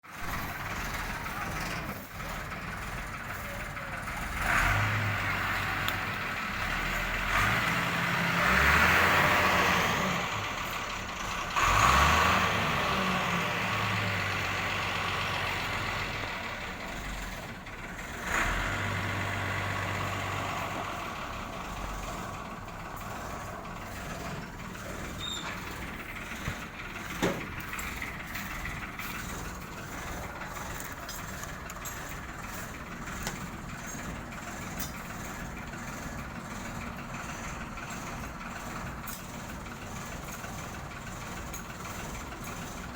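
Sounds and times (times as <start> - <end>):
truck engine running: 0.0 - 42.9.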